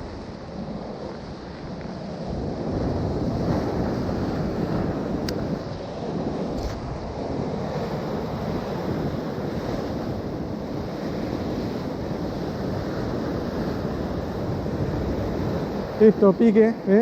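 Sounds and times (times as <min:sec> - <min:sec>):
sea waves washing: 0:00.0 - 0:17.0
wind rumbling on microphone: 0:00.0 - 0:17.0.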